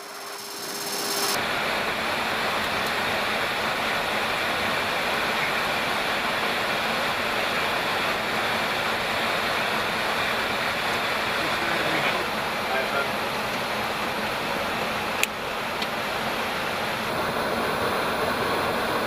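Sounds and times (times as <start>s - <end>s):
jet aircraft roar: 0.0s - 19.0s.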